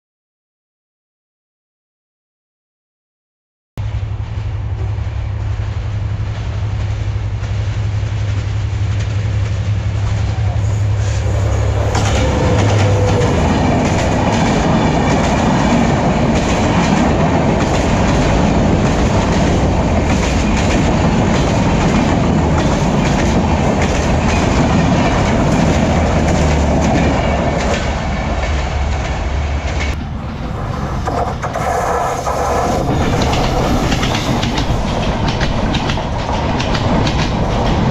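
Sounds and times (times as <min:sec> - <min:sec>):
diesel locomotive drone: 0:03.8 - 0:37.9
oncoming train: 0:03.8 - 0:37.9
train wheels clickety-clack: 0:04.8 - 0:37.9.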